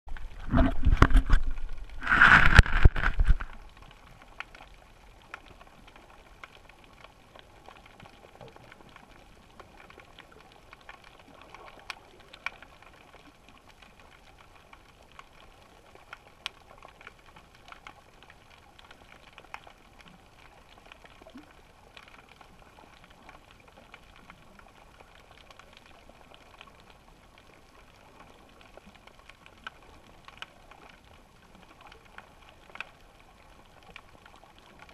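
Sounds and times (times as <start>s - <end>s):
small underwater clicks: 0.1s - 34.9s.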